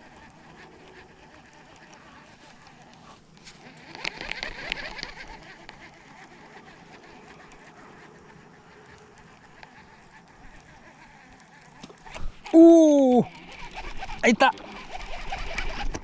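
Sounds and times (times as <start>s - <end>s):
fishing reel whirring and clicking: 0.0s - 16.0s.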